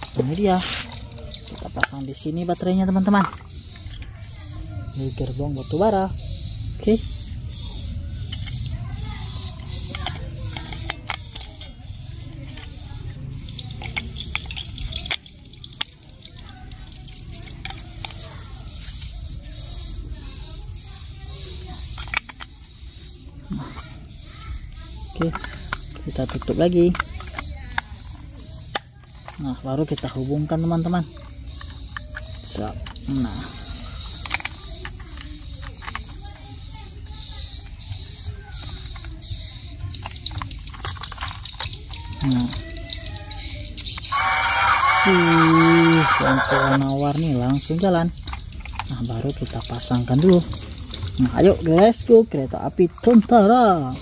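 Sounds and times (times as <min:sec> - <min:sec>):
plastic toy train cars clicking: 0:00.0 - 0:04.6, 0:06.8 - 0:19.6, 0:20.6 - 0:54.0
fumbling with batteries: 0:00.0 - 0:54.0.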